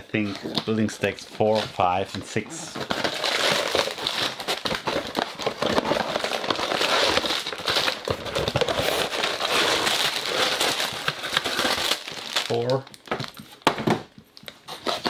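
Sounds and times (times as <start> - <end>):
plastic bags rustling: 0.1 - 13.6.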